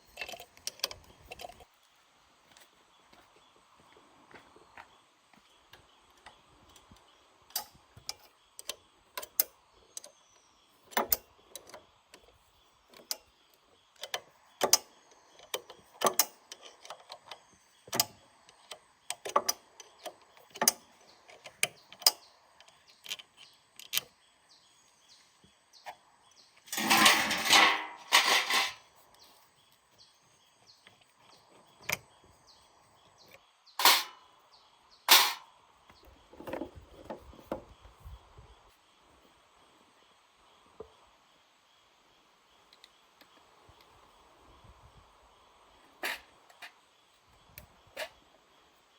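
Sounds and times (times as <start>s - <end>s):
faint bird chirps: 2.5s - 26.7s, 28.8s - 48.9s.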